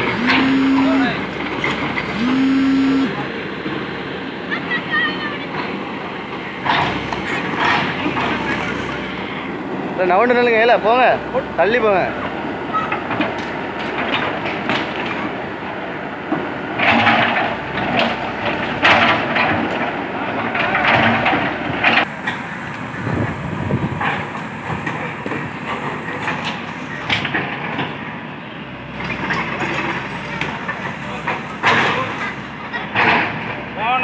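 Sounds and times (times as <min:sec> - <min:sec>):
excavator engine running: 0:00.0 - 0:04.6, 0:05.7 - 0:34.0.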